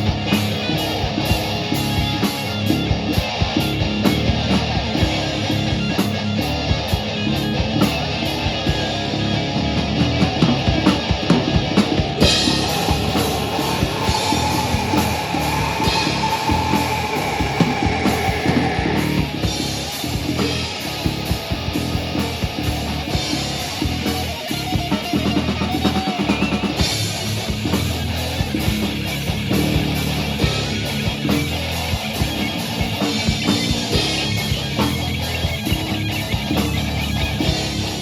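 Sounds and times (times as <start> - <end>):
distorted electric guitar: 0.0 - 38.0
live rock band playing: 0.0 - 38.0
pounding drum kit: 0.0 - 38.0.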